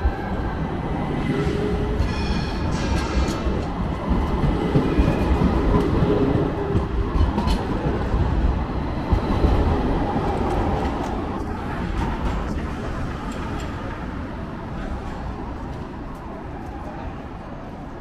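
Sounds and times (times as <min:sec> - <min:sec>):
tram rumbling past: 0:00.0 - 0:18.0.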